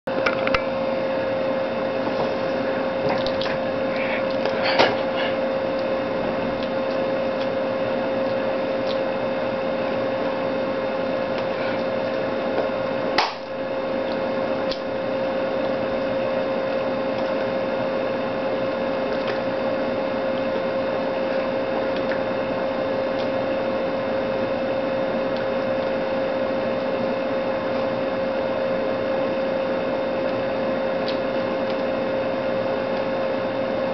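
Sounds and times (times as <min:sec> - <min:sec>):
electrical hum and whine: 0:00.0 - 0:33.9.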